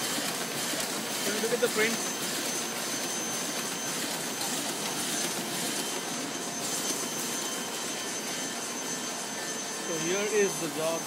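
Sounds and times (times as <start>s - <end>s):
printing press whirring: 0.0s - 11.0s
faint high whine: 1.3s - 11.0s.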